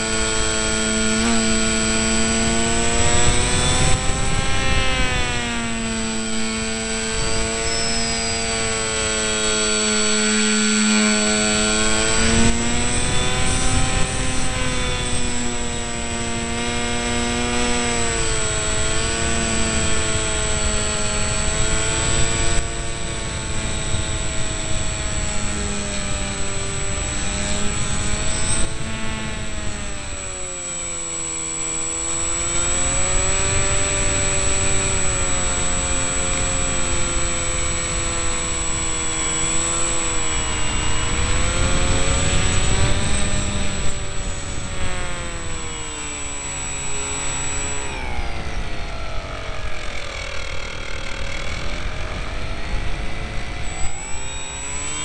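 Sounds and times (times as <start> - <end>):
electric motor and propeller whine: 0.0 - 55.0
rushing wind noise: 1.4 - 55.0.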